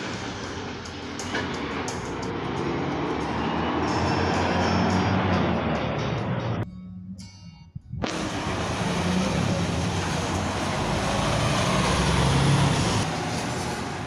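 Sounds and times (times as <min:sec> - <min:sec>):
heavy truck driving by: 0:00.0 - 0:06.6, 0:08.0 - 0:14.0.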